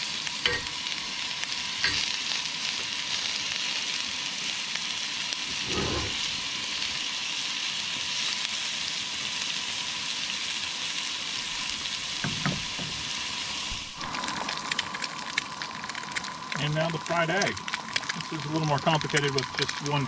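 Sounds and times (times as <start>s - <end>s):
egg frying crackle: 0.0s - 20.0s
meat and onions sizzling: 0.0s - 20.0s.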